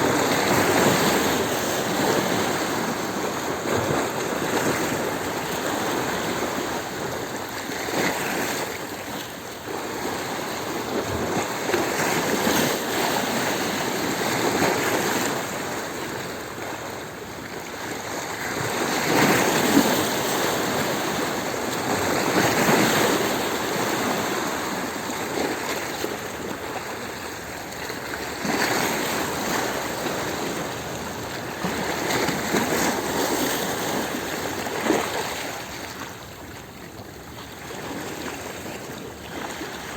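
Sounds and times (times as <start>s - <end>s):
waves washing over stones: 0.0s - 39.9s.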